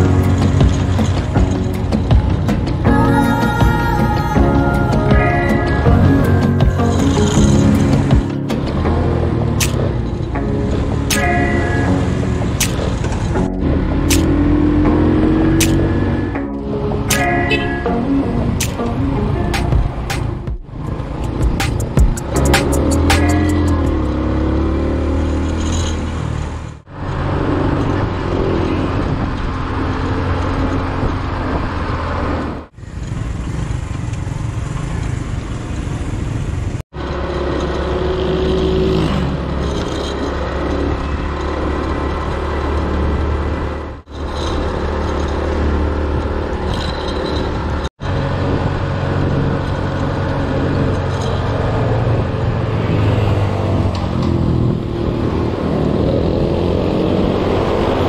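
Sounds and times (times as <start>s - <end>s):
motorcycle engine rumble: 0.0s - 58.0s
wind and road noise: 0.0s - 58.0s.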